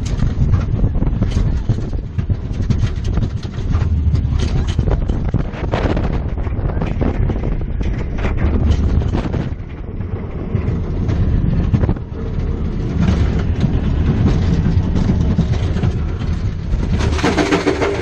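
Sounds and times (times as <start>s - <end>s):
roller coaster wheel rumble: 0.0s - 18.0s.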